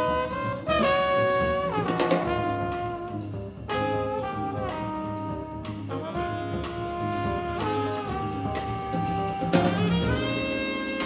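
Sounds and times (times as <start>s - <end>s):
drum kit with cymbal hits: 0.0s - 11.0s
saxophone: 0.0s - 11.0s
trombone: 0.0s - 11.0s
upright bass: 0.0s - 11.0s.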